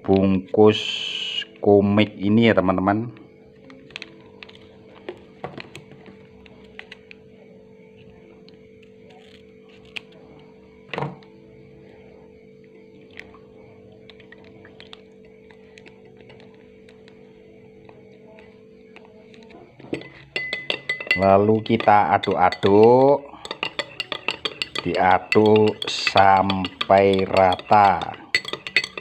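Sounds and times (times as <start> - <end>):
soft background music: 0.0 - 29.0.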